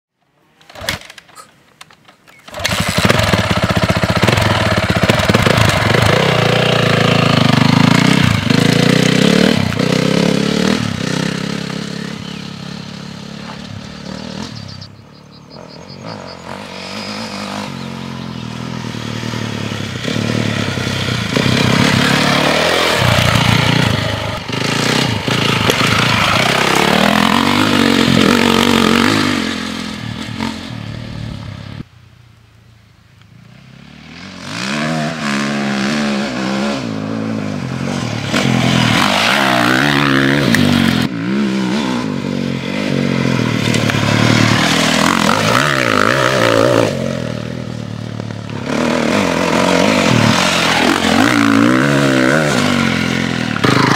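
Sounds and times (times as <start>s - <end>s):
dirt bike engine revving: 2.5s - 31.8s, 33.6s - 53.9s.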